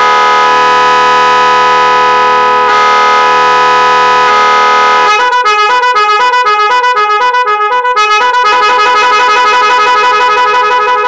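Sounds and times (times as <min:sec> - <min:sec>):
electric horns playing warbling tones: 0:00.0 - 0:11.0.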